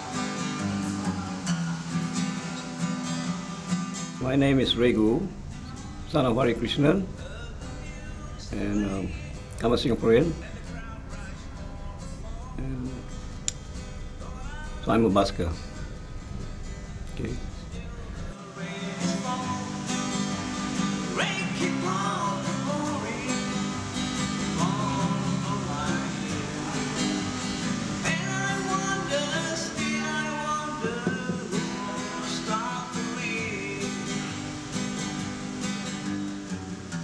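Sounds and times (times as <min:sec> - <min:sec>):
man singing: 0:00.0 - 0:02.6, 0:04.2 - 0:16.1, 0:17.1 - 0:34.4
acoustic guitar strumming: 0:00.0 - 0:37.0.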